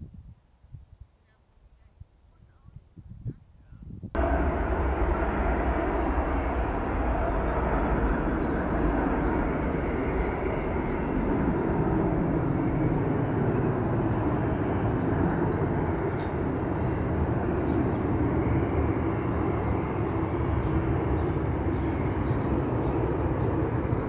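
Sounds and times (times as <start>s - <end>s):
jet airliner rumbling overhead: 4.2s - 24.0s.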